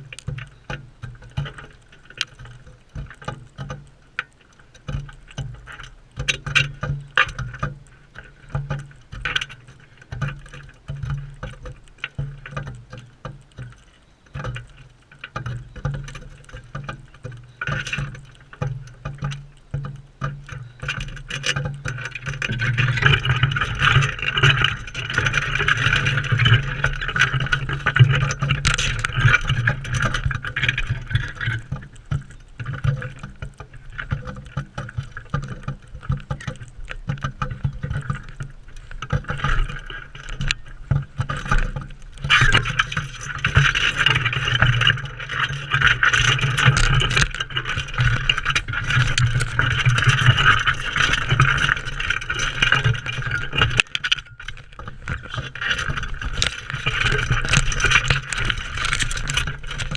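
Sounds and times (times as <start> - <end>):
steady rustling hiss: 0.0 - 59.9.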